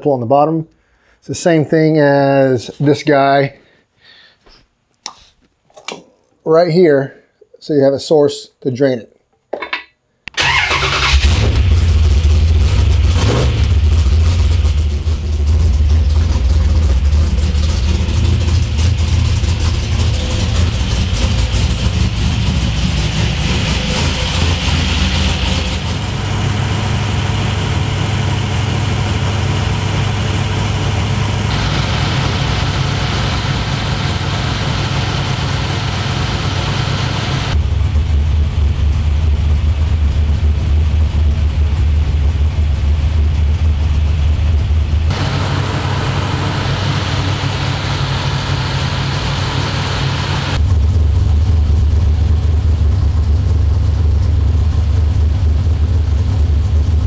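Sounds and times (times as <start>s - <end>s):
engine idling deep rumble: 11.1s - 57.0s.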